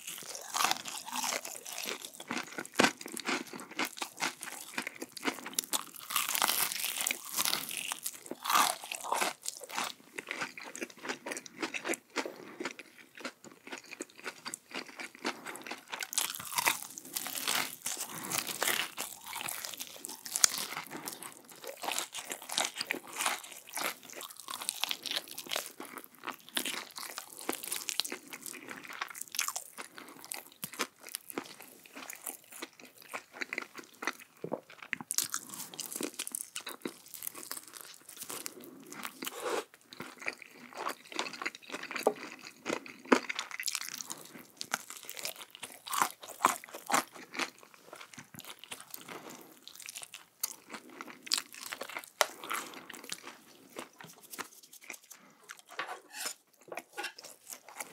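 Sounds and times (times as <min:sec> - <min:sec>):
person chewing crunchy food: 0:00.0 - 0:57.9.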